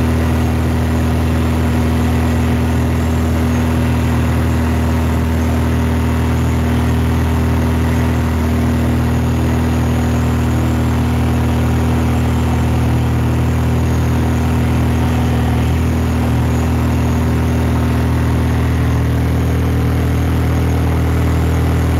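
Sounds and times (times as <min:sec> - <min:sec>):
aircraft engine droning: 0:00.0 - 0:21.9.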